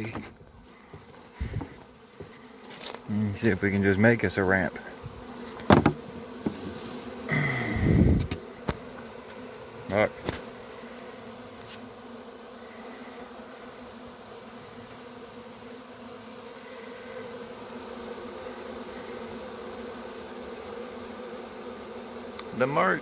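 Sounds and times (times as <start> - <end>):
bee swarm buzzing: 0.0 - 23.0.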